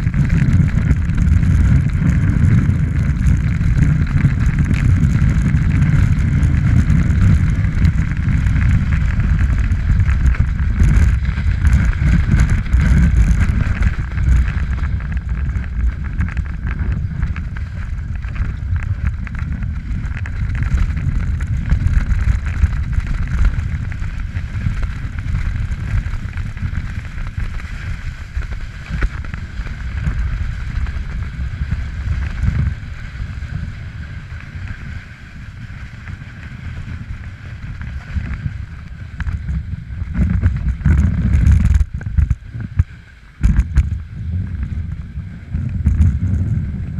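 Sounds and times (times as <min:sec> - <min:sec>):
snowboard scraping over snow: 0:00.0 - 0:46.9
wind buffeting microphone: 0:00.0 - 0:46.9.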